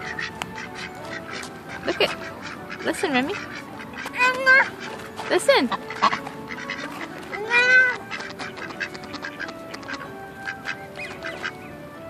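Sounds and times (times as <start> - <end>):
duck quacking: 0.0 - 11.8
flock of ducks calling: 0.0 - 12.0.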